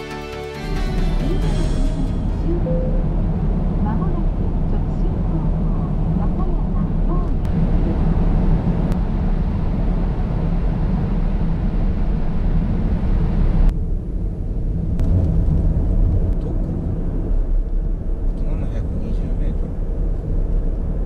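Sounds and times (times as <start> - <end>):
car tyres and engine rumble: 2.2 - 21.0.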